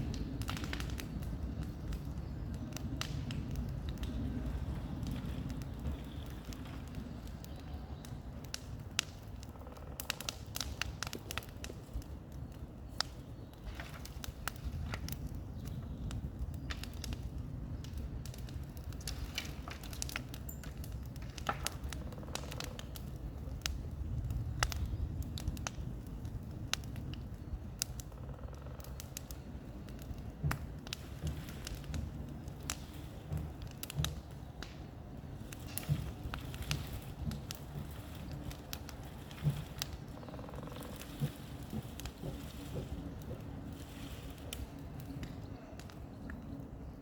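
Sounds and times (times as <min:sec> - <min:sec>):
bonfire crackling and popping: 0:00.0 - 0:47.0.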